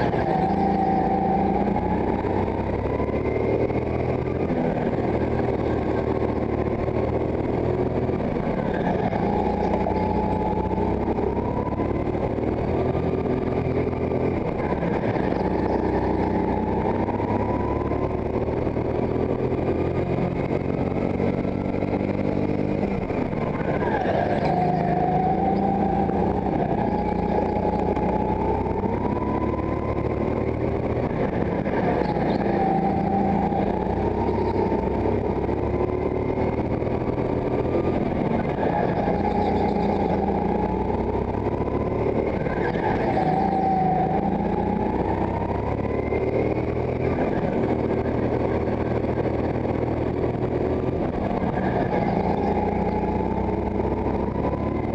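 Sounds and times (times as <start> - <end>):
go-kart engine revving: 0.0 - 54.9.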